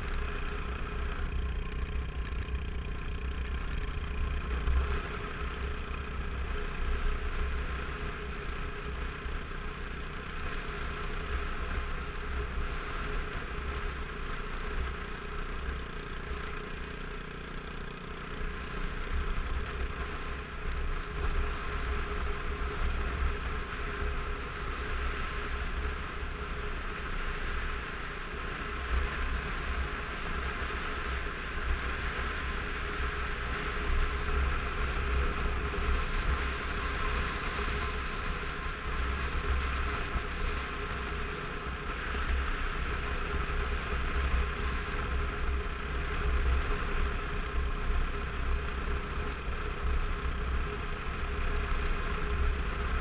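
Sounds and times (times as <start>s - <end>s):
motorcycle engine cruising: 0.0s - 53.0s.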